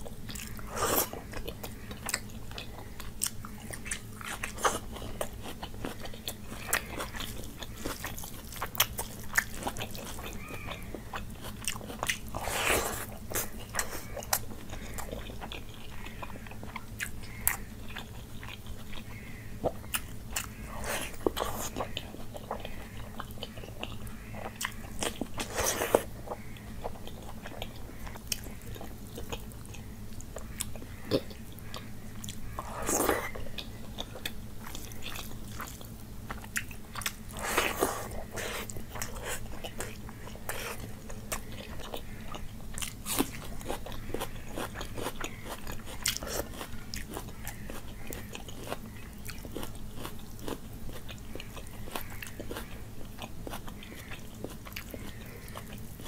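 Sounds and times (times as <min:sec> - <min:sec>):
chewing and mouth sounds: 0:00.0 - 0:56.0.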